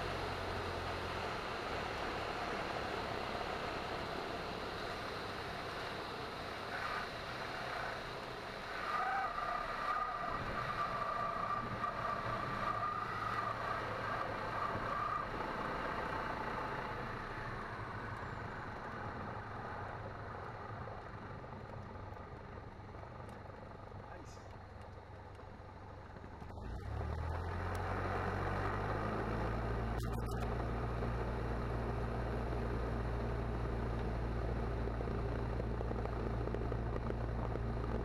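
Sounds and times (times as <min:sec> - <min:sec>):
light aircraft engine throttled back: 0:00.0 - 0:08.8, 0:12.2 - 0:38.0.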